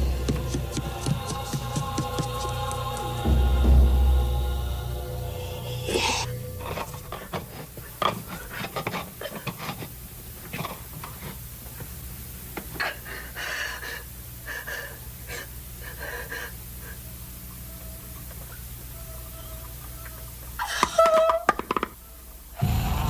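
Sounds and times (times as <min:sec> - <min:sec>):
steady low hum: 0:00.0 - 0:20.6, 0:22.6 - 0:23.0.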